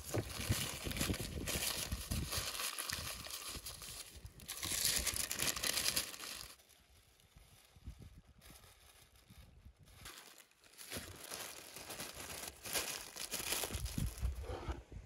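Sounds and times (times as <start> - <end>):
parchment paper crinkling: 0.0 - 14.4.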